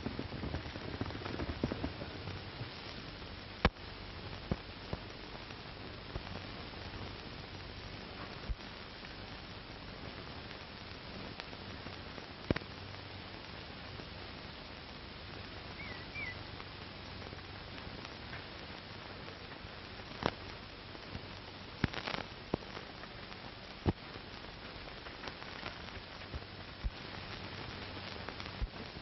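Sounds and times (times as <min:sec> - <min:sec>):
film soundtrack hiss and hum: 0:00.0 - 0:29.0
sharp clicks and crackles: 0:00.0 - 0:29.0.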